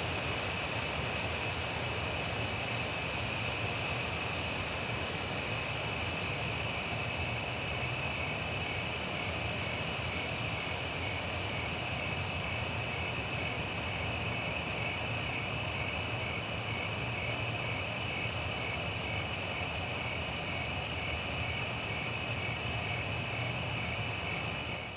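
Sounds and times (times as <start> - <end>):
crickets trilling: 0.1 - 24.9.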